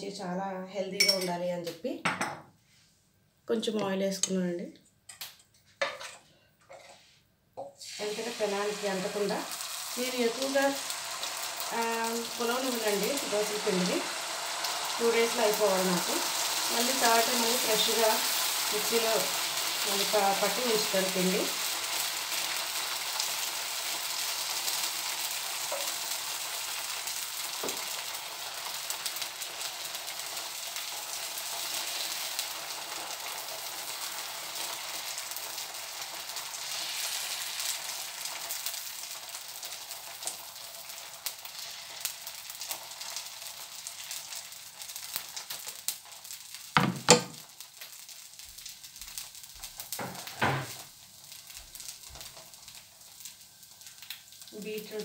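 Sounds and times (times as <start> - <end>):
batter sizzling on hot pan: 7.8 - 55.0.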